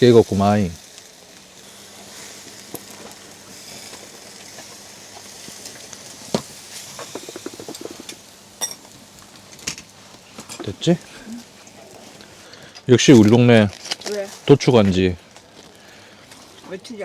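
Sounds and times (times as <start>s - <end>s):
meat and onions sizzling: 0.0s - 17.0s.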